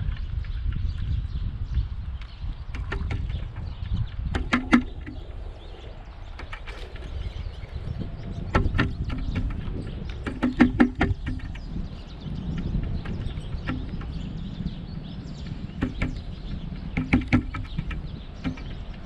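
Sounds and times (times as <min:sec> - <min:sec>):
woodpecker pecking: 0:02.7 - 0:14.6, 0:15.4 - 0:19.0.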